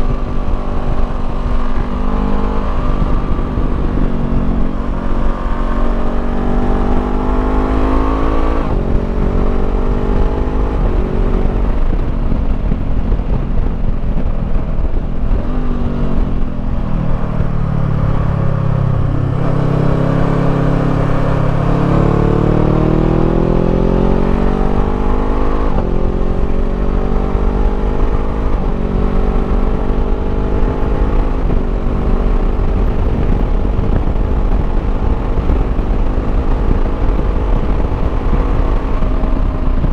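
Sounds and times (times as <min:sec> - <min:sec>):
motorcycle engine accelerating: 0:00.0 - 0:39.9
wind rumble on microphone: 0:00.0 - 0:39.9.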